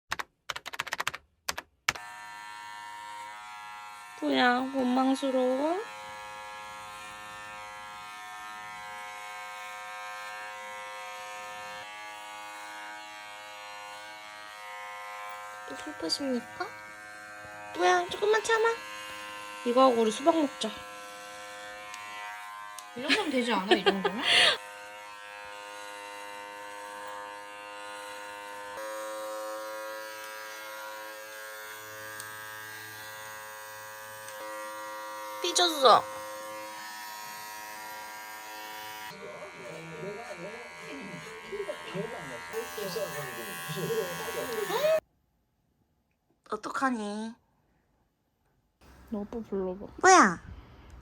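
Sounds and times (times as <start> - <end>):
electric hair clippers buzzing: 1.9 - 45.0.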